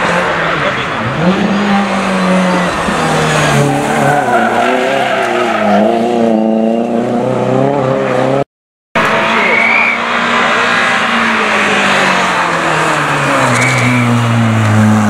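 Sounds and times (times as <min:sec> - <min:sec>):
rally car engine revving: 0:00.0 - 0:08.4, 0:09.0 - 0:15.0.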